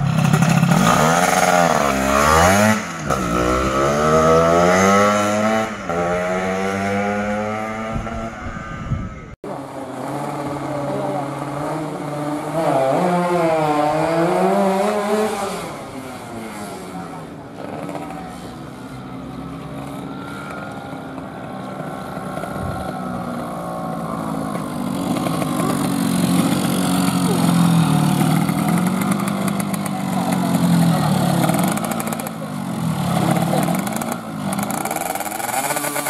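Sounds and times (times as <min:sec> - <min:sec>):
racing motorcycle engines: 0:00.0 - 0:36.0.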